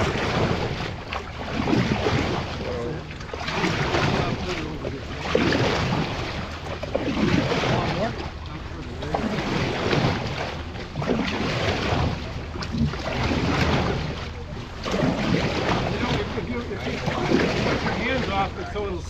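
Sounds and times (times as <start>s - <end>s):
paddle swishing and splashing water: 0.0s - 19.0s.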